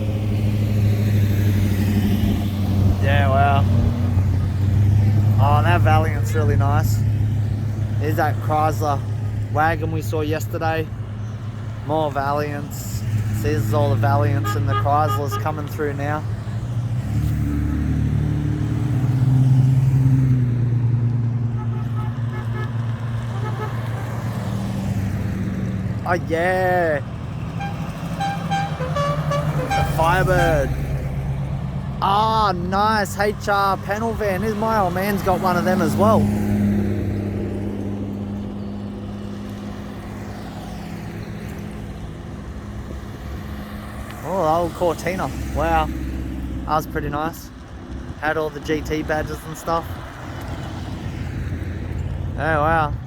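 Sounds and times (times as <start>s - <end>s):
cars driving slowly past: 0.0s - 53.0s.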